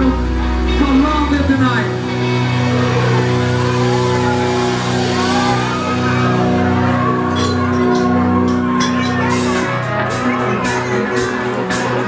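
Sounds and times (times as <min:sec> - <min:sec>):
live country band playing: 0:00.0 - 0:12.0.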